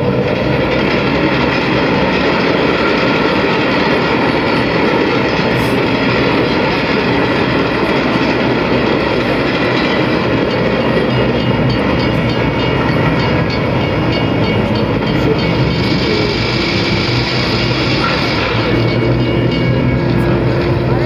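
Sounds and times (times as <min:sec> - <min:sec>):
train rumble over loudspeakers: 0:00.0 - 0:21.0
wheels clickety-clack: 0:00.0 - 0:21.0.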